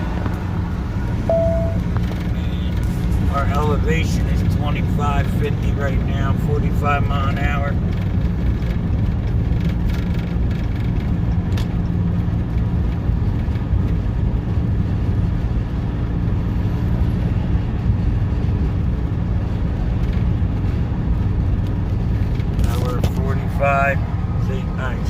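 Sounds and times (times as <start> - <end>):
diesel truck engine with exhaust brake: 0.0 - 25.0
road and tyre noise: 0.0 - 25.0.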